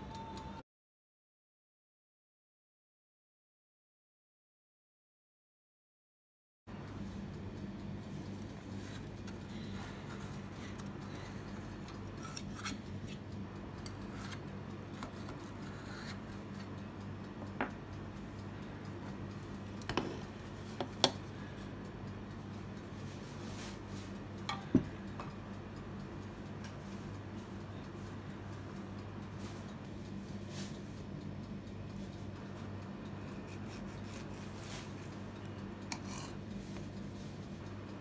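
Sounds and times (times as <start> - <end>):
low steady hum: 6.7 - 38.0.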